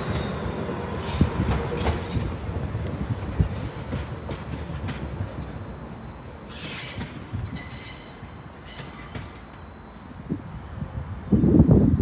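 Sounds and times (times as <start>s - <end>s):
train rumbling over tracks: 0.0s - 12.0s
wheels squealing on rails: 0.0s - 12.0s.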